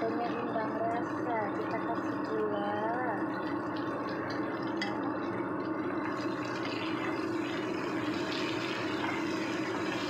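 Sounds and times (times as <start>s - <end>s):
food sizzling in hot oil: 0.0s - 10.0s
steady low hum: 0.0s - 10.0s.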